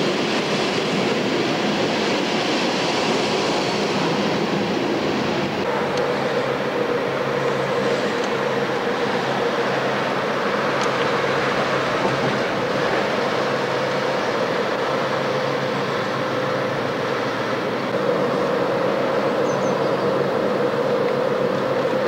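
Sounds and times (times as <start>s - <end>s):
vehicle interior running noise: 0.0s - 22.0s.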